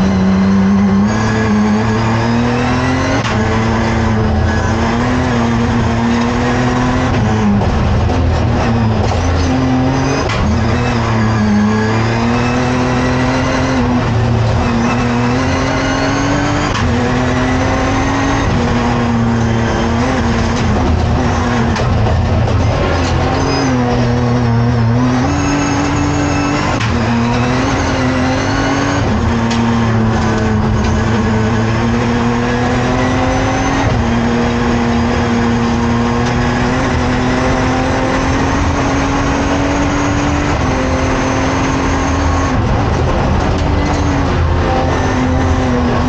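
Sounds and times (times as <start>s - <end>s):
race car engine at full throttle: 0.0s - 46.0s.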